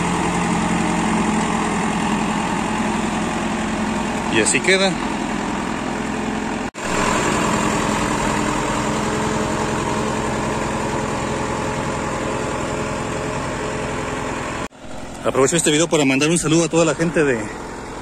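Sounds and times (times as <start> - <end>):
tractor diesel engine at low revs: 0.0 - 18.0.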